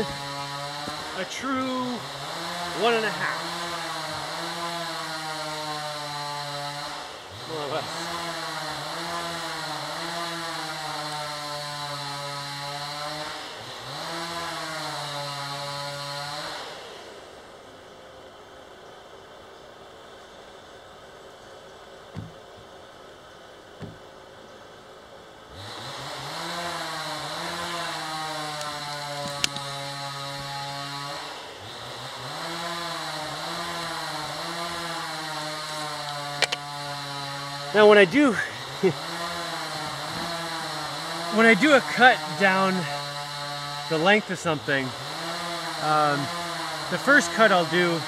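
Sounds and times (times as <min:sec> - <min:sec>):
chainsaw cutting log: 0:00.0 - 0:17.9, 0:21.9 - 0:48.0.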